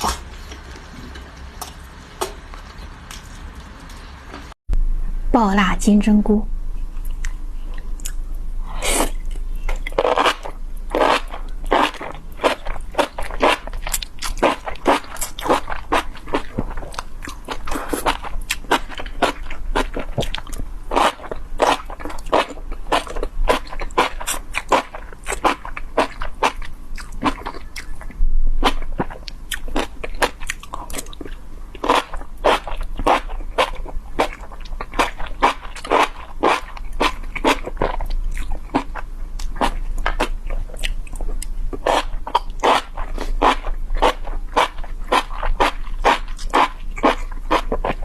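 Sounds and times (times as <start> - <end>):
crunchy wet chewing: 9.0 - 48.0.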